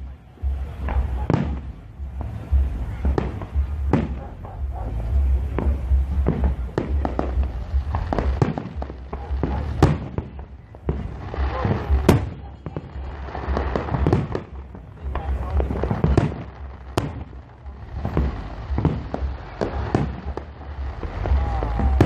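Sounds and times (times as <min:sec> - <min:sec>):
fireworks bangs and cracks: 0:00.0 - 0:22.0
low rumble of booms: 0:00.3 - 0:22.0.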